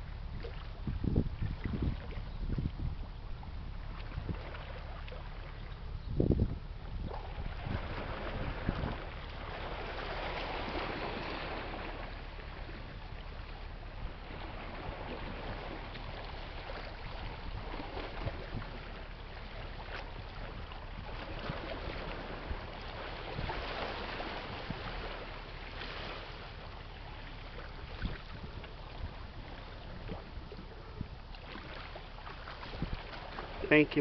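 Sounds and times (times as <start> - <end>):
wind noise on microphone: 0.0 - 4.8, 5.4 - 26.1, 27.6 - 34.0
steady low rumble: 0.0 - 34.0.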